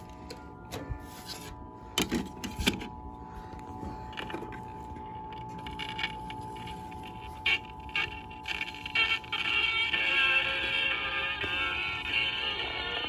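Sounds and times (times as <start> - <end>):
turntable whine: 0.0 - 13.0.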